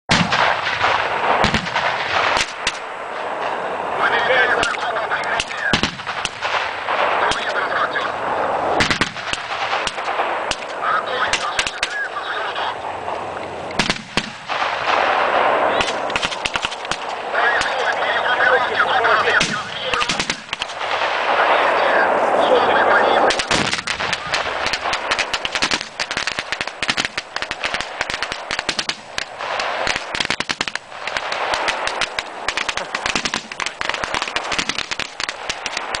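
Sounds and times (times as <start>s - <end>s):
automatic rifle gunfire: 0.1s - 3.0s, 4.6s - 8.1s, 8.8s - 12.2s, 13.8s - 18.3s, 19.1s - 21.9s, 23.3s - 36.0s
heavy bangs: 0.1s - 36.0s.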